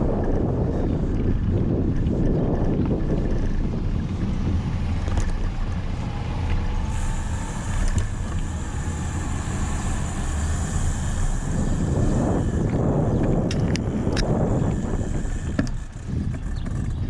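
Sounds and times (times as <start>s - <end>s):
road traffic: 0.0s - 17.0s
wind buffeting microphone: 0.0s - 17.0s.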